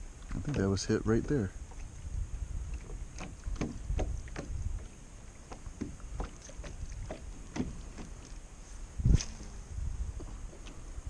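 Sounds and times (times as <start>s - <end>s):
water splashing against kayak hull: 0.0s - 11.0s
wind rumble on microphone: 0.0s - 11.0s.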